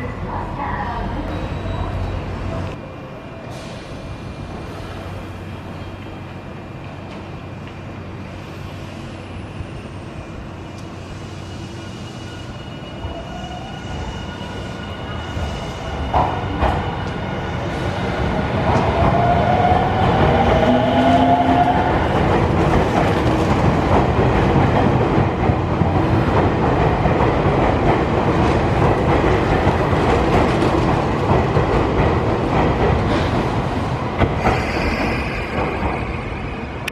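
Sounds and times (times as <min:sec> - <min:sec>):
electric train running on rails: 0:00.0 - 0:36.9.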